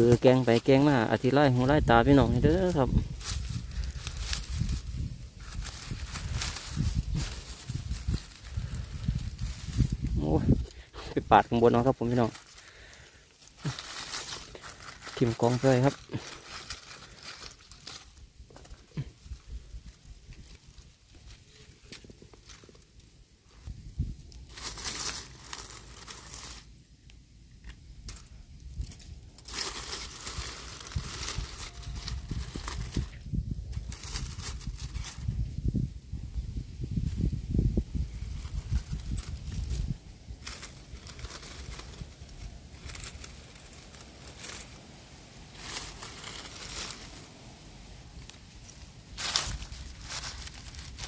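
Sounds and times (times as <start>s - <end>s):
twigs snapping: 0.0s - 10.9s, 11.7s - 23.1s, 24.3s - 35.3s, 38.3s - 51.0s
dry leaves rustling underfoot: 0.0s - 51.0s.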